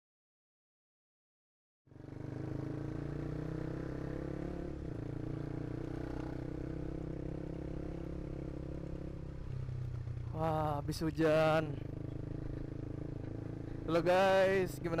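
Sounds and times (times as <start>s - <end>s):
motorcycle engine running: 1.9s - 15.0s.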